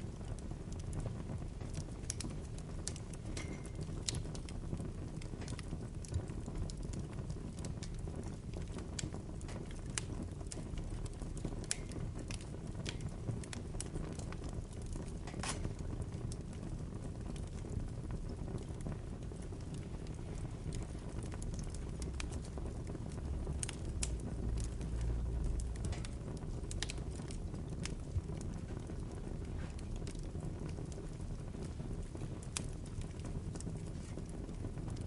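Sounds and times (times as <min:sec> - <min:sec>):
burning wood crackling and popping: 0:00.0 - 0:35.0
fire low rumble: 0:00.0 - 0:35.0.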